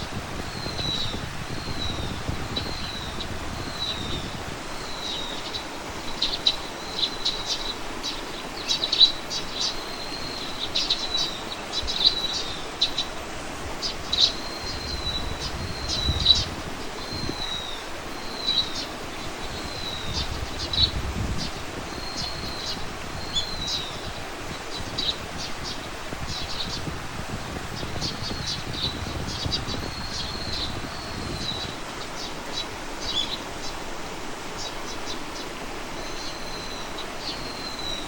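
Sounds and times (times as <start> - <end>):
wind rumble on microphone: 0.0 - 8.6, 9.3 - 34.4
songbirds chirping and singing: 0.4 - 34.0.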